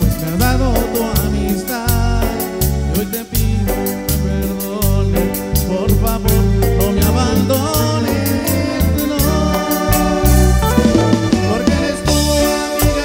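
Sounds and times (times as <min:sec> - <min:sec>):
song with steady beat and bass: 0:00.0 - 0:13.0.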